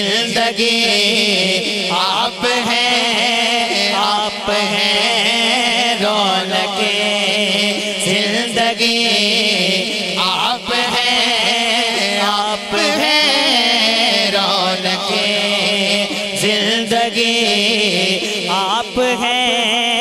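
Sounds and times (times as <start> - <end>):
man singing through microphone: 0.0 - 20.0.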